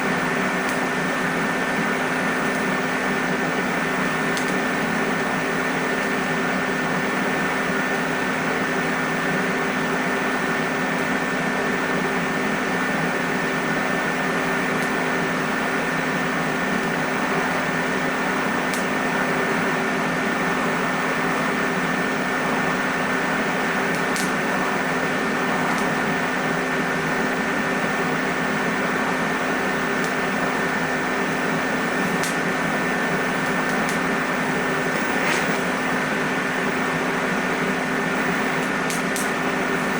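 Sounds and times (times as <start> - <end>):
machine hum with held tones: 0.0 - 39.9.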